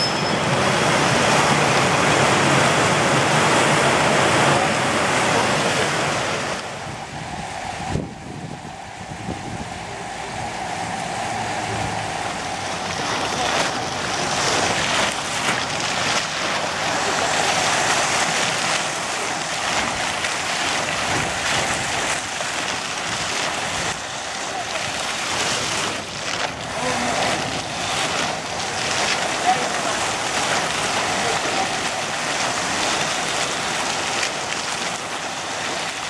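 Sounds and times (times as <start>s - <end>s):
fountain water splashing: 0.0s - 36.0s.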